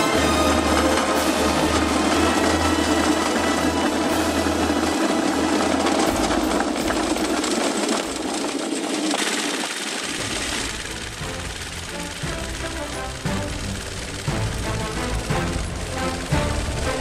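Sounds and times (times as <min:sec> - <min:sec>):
small gasoline engine rattling: 0:00.0 - 0:17.0.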